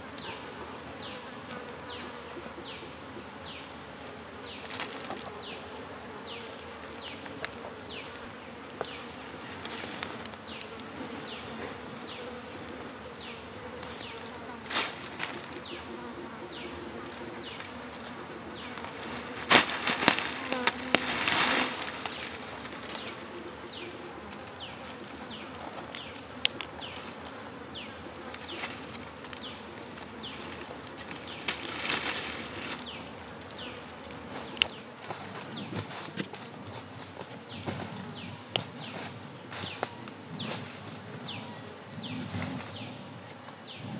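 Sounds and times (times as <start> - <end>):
insects buzzing: 0.0 - 43.9
rustling and crackling: 4.4 - 5.7, 6.3 - 41.4, 42.0 - 43.6.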